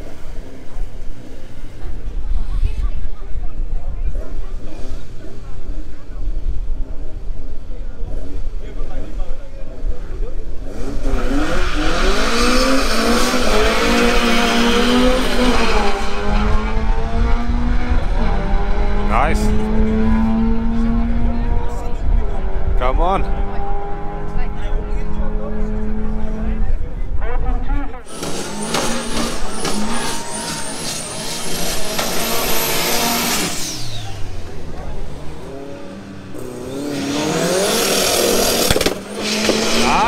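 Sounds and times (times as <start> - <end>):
race car engine accelerating: 4.1 - 40.0.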